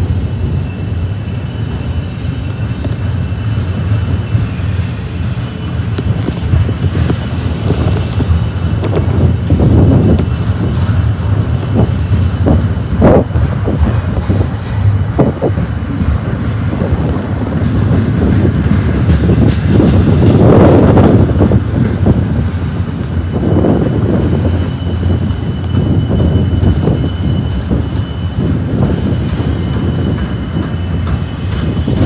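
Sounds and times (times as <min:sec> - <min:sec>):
train cars clanking: 0:00.0 - 0:32.0
train wheels rumbling on rail: 0:00.0 - 0:32.0.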